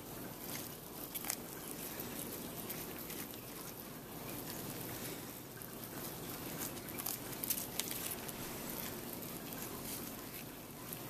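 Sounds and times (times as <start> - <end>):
faint gloved handling noise: 0.3 - 11.0.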